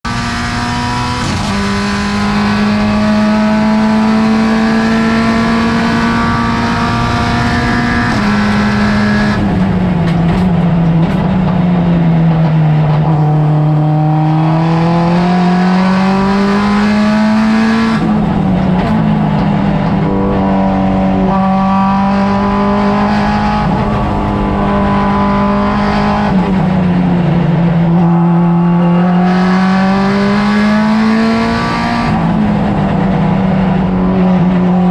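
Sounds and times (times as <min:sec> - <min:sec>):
car engine running hard: 0:00.0 - 0:34.9
road and wind noise: 0:00.0 - 0:34.9.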